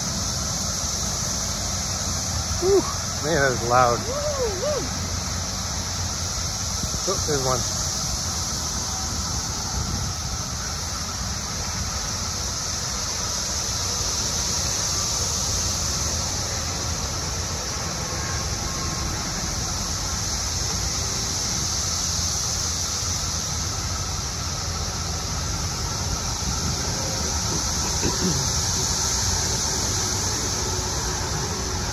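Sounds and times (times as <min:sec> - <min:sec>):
cicadas droning: 0:00.0 - 0:31.9
highway traffic rumble: 0:00.0 - 0:31.9.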